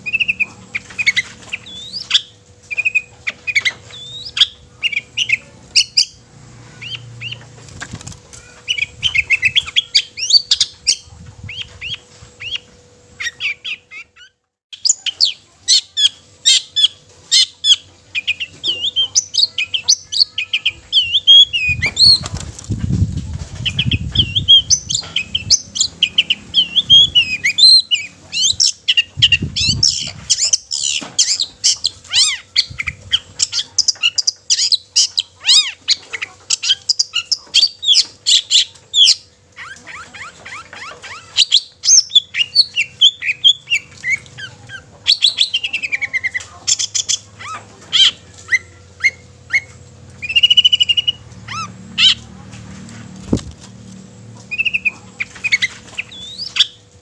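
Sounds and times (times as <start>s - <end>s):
bird chattering song: 0.0s - 7.6s, 8.4s - 22.4s, 23.6s - 52.4s, 54.4s - 56.9s.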